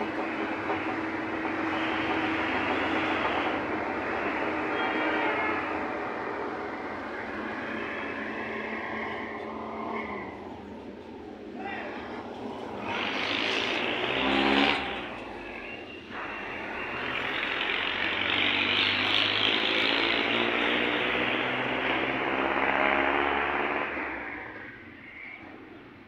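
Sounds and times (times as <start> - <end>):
motor vehicles passing: 0.0 - 25.3.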